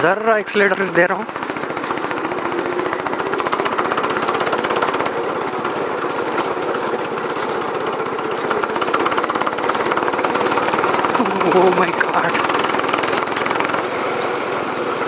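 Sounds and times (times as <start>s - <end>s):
go-kart engine under throttle: 0.0s - 15.0s.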